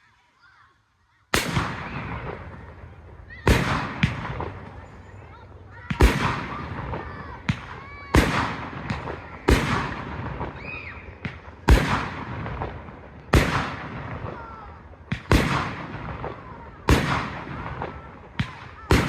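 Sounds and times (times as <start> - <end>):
small firework cracks: 1.3 - 19.0
fireworks booming: 1.4 - 19.0.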